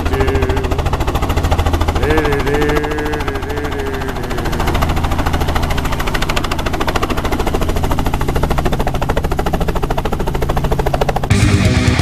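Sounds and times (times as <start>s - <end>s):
helicopter engine hum: 0.0s - 12.0s
helicopter rotor chopping: 0.0s - 12.0s.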